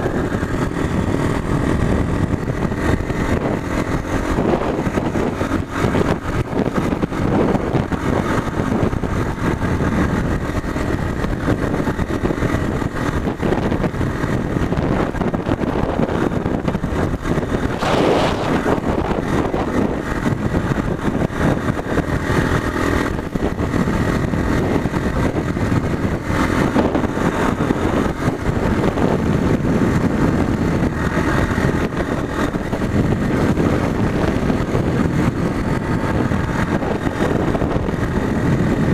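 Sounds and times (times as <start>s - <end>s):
motorcycle engine running: 0.0s - 38.9s
riding wind noise: 0.0s - 38.9s.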